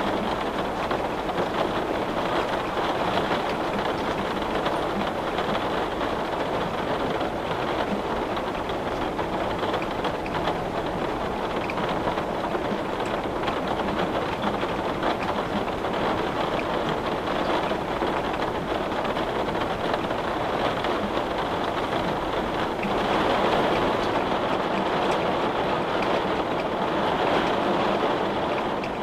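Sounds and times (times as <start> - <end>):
steady rain hiss: 0.0 - 29.0
raindrop ticks on window: 0.2 - 26.7.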